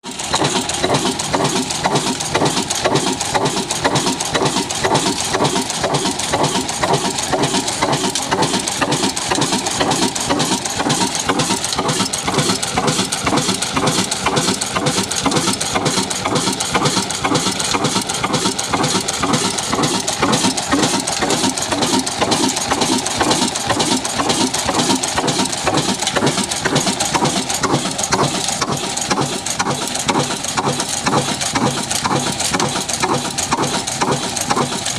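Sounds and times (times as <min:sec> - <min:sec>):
stationary engine running: 0:00.0 - 0:34.9.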